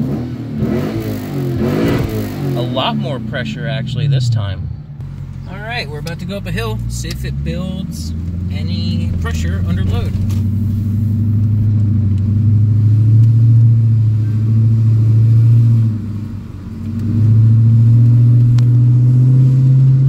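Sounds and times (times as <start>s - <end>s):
car engine droning uphill: 0.0s - 20.0s.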